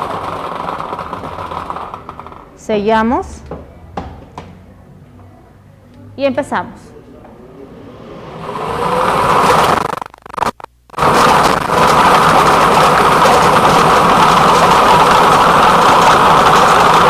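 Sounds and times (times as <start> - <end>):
lottery ball machine whirring: 0.0 - 17.0.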